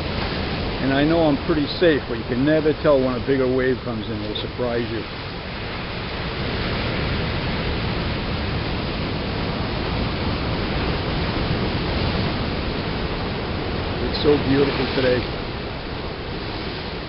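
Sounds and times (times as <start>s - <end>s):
surf breaking over rocks: 0.0s - 17.0s.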